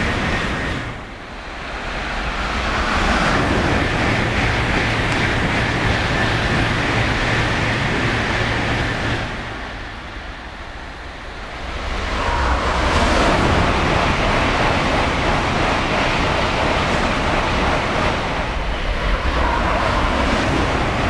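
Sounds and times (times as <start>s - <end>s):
high-speed train rushing past: 0.0s - 21.0s.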